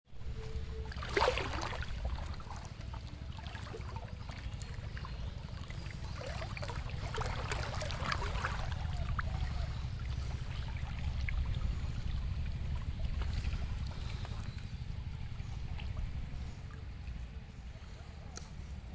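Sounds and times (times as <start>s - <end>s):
wind rumbling on microphone: 0.1s - 18.9s
water splashing and trickling: 0.2s - 18.9s.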